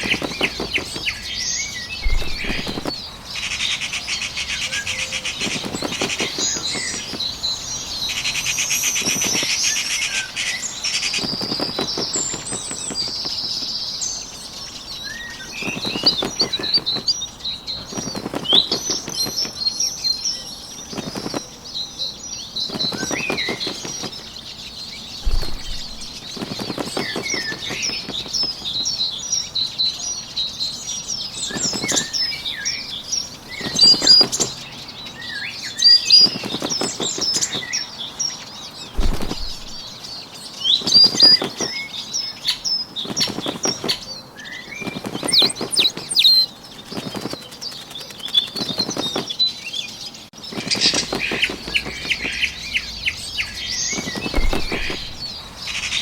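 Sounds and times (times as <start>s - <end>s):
bird wings flapping: 0.0s - 21.8s, 22.4s - 29.1s, 31.4s - 34.8s, 35.8s - 38.0s, 38.8s - 49.6s, 50.4s - 55.6s
songbirds chirping: 0.0s - 56.0s.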